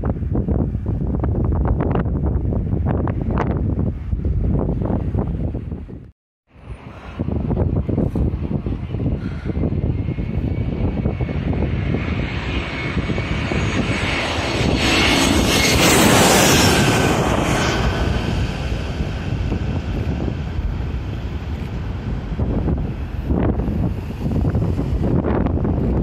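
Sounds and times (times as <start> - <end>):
airliner engine passing overhead: 0.0 - 26.0
wind rumble on microphone: 0.0 - 26.0.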